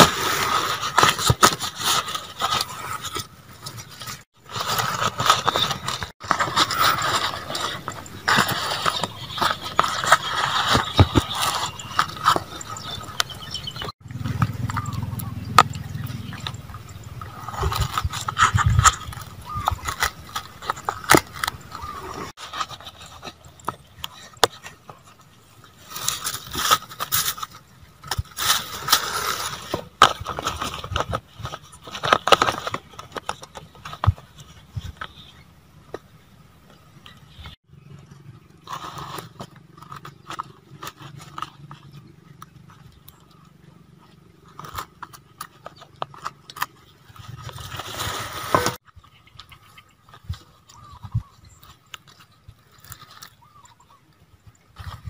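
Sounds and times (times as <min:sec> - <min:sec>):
banana leaves rustling and crackling: 0:00.0 - 0:36.0, 0:38.5 - 0:55.0.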